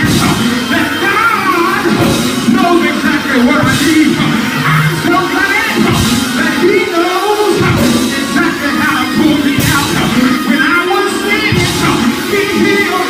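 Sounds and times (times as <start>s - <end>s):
church music with singing voices: 0.0s - 13.0s.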